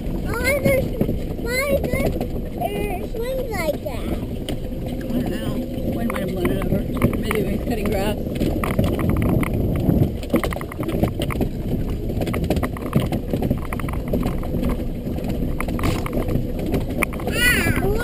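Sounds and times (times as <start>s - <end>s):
golf cart rumbling: 0.0s - 18.0s
small rattles and clicks: 0.0s - 18.0s.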